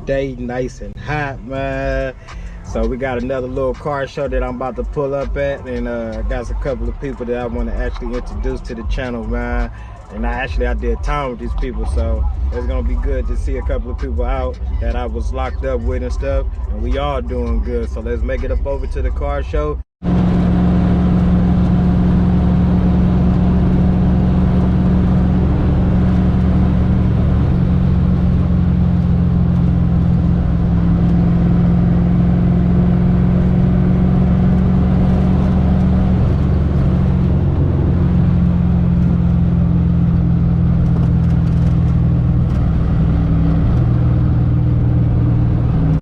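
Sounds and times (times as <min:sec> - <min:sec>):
car engine: 0:00.0 - 0:46.0
road noise: 0:00.0 - 0:46.0.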